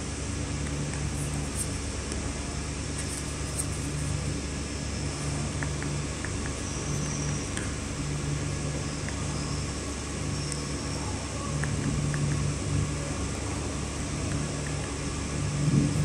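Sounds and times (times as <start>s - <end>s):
projector fan humming: 0.0s - 16.0s.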